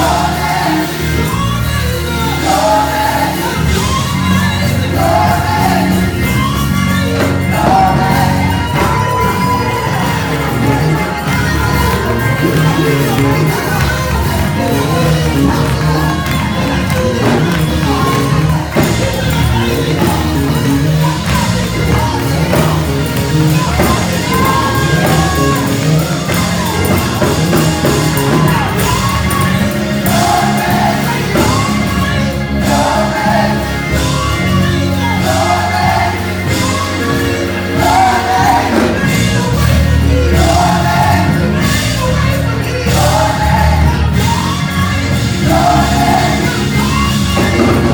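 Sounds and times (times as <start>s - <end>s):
bass and drum groove: 0.0s - 47.9s
gospel choir singing: 0.0s - 47.9s.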